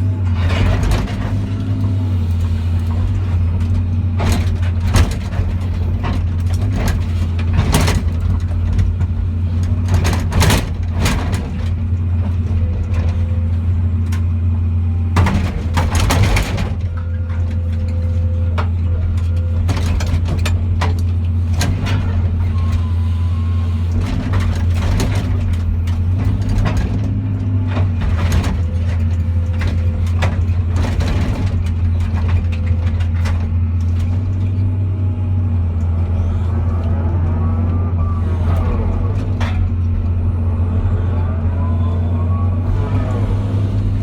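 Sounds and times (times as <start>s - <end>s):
metal banging and crunching: 0.0s - 14.5s, 15.1s - 23.1s, 23.8s - 41.6s, 42.2s - 44.0s
excavator diesel engine running: 0.0s - 44.0s
hydraulics whining: 0.0s - 44.0s.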